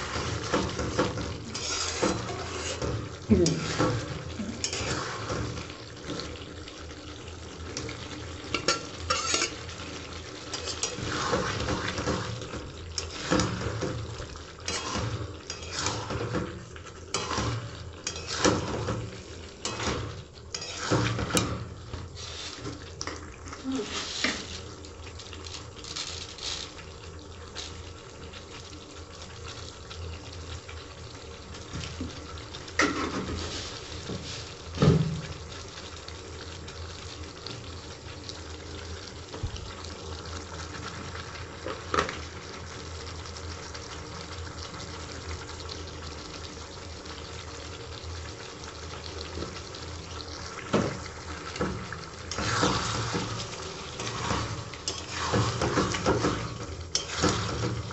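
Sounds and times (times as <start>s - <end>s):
curry gravy bubbling: 0.0s - 57.9s.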